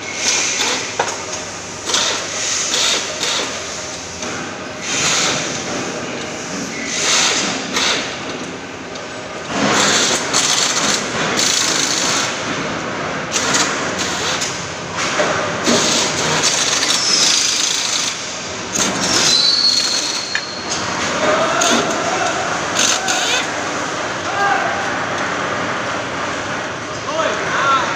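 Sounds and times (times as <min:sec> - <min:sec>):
workshop noise: 0:00.0 - 0:27.9.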